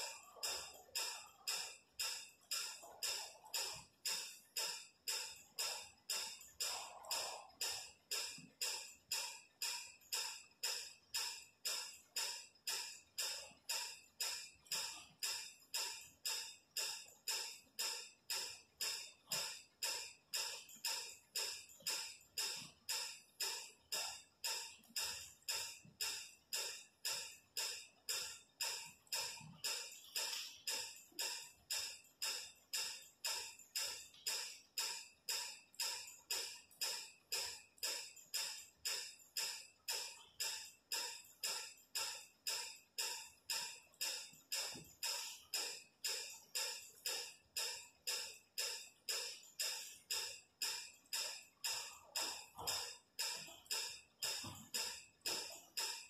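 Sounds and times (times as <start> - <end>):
repeating percussive beat: 0.0 - 56.0.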